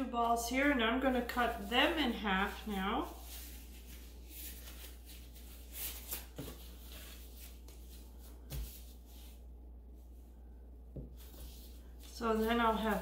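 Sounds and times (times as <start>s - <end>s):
plastic gloves rustling: 0.0s - 13.0s.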